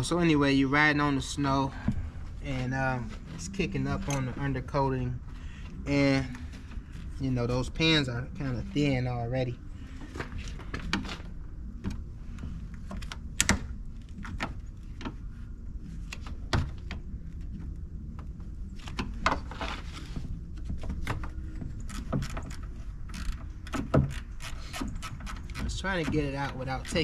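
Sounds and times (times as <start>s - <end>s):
steady low rumble: 0.0s - 24.4s.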